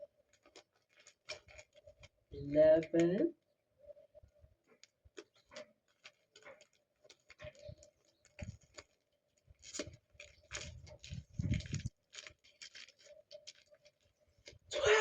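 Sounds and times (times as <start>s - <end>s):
packaging clicking and rustling: 0.2s - 2.2s, 4.6s - 14.7s.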